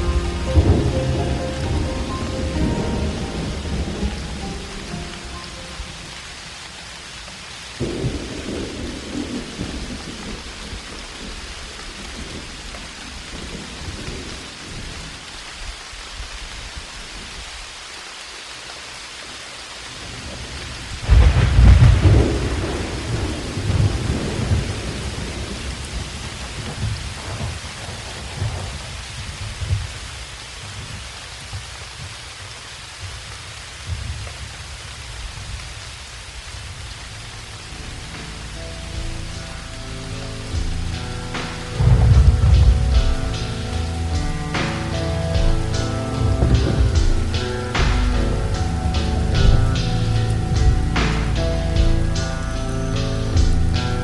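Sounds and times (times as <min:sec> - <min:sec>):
rolling thunder: 0:00.0 - 0:17.4, 0:20.0 - 0:32.2, 0:33.0 - 0:52.2
steady rain: 0:00.0 - 0:54.0.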